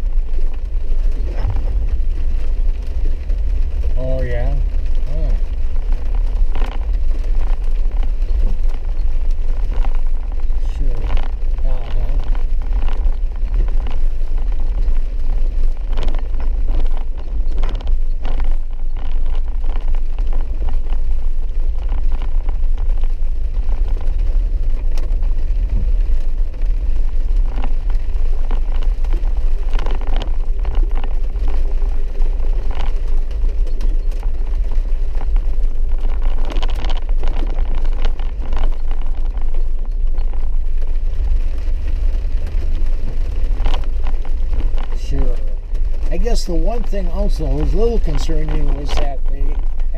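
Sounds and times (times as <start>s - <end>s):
vehicle engine and tyres rumble: 0.0s - 49.9s.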